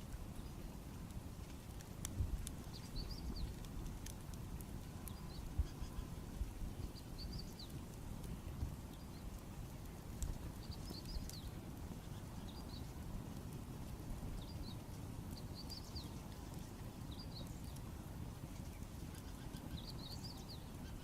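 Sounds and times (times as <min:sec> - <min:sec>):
campfire crackling and popping: 0:00.0 - 0:21.0
small birds chirping: 0:01.4 - 0:04.2, 0:04.9 - 0:13.3, 0:14.2 - 0:21.0.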